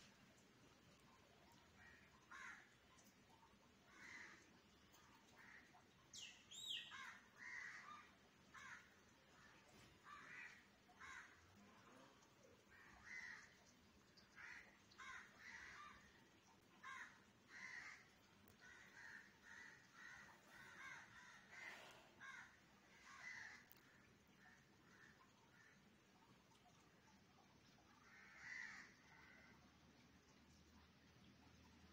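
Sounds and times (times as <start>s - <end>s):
faint crows cawing: 1.2s - 3.1s, 3.8s - 26.8s, 27.6s - 29.8s.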